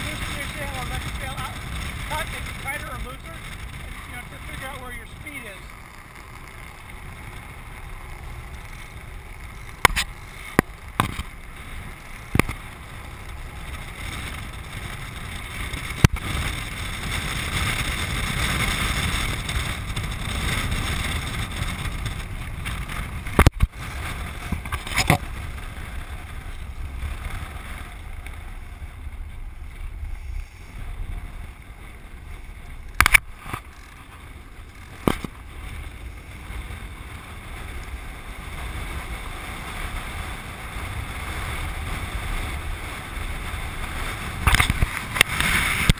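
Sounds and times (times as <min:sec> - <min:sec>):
wind and rolling noise: 0:00.0 - 0:45.9.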